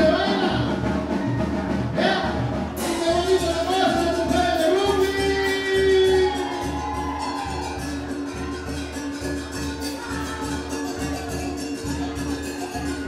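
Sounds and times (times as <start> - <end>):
latin dance music with singing: 0.0 - 13.0.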